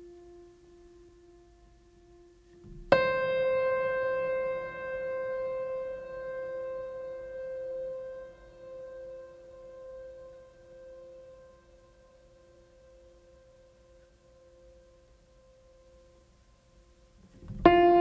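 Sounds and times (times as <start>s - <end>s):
piano-like note ringing: 0.0s - 16.1s, 17.6s - 18.0s.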